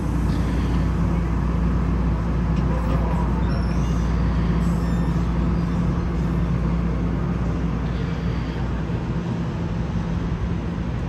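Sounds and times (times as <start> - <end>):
train passing slowly: 0.0 - 11.0.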